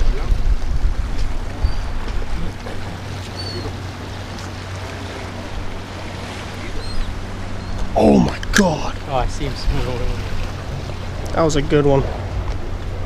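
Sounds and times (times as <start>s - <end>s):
boat engines droning: 0.0s - 13.0s
wind: 0.0s - 13.0s.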